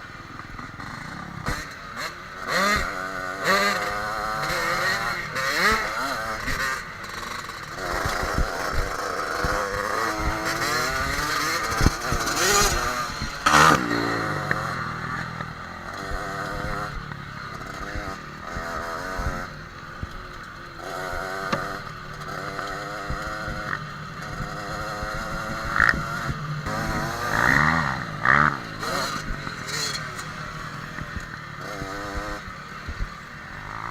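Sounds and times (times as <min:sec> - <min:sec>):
dirt bike engine revving: 0:00.5 - 0:33.9.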